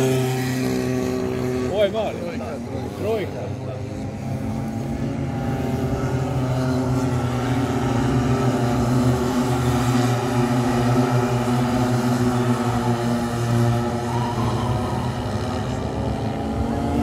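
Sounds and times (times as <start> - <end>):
racing kart engines: 0.0 - 17.0.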